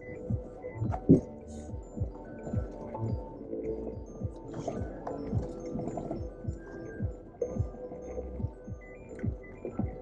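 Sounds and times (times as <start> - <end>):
music with held tones and low beat: 0.0 - 10.0.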